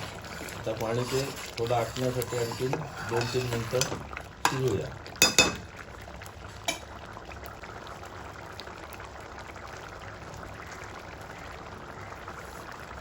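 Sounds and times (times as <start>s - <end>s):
pan simmering and bubbling: 0.0s - 13.0s.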